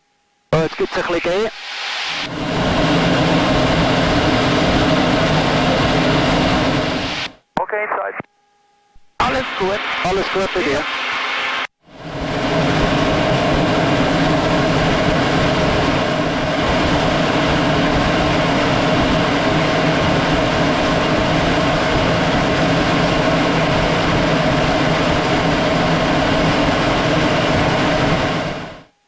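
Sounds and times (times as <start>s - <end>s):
aircraft engine drone: 0.6s - 7.9s, 9.2s - 29.0s.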